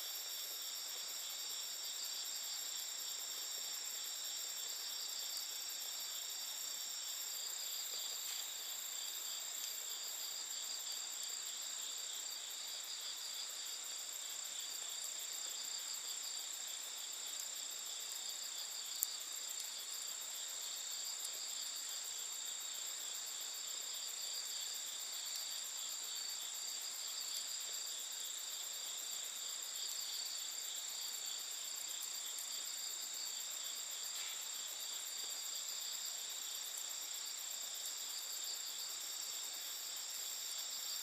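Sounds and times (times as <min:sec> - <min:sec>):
faint hiss: 0:00.0 - 0:41.0
night insects trilling: 0:00.0 - 0:41.0.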